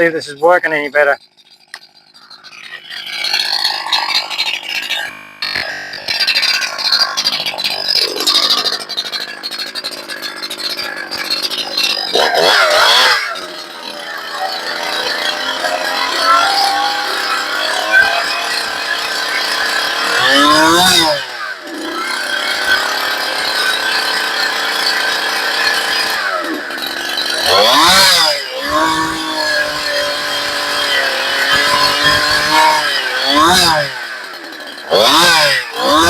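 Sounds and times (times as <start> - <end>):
chainsaw cutting log: 0.0 - 36.0.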